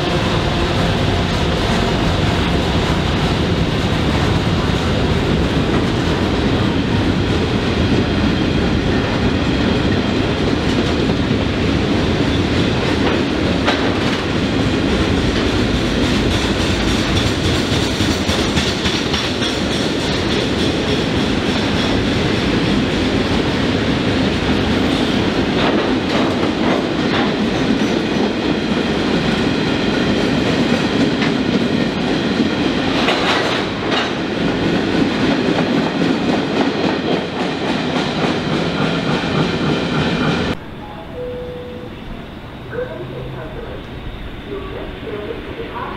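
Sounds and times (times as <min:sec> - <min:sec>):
train wheels rumbling on rails: 0:00.0 - 0:40.7
clickety-clack at rail joints: 0:00.1 - 0:40.6.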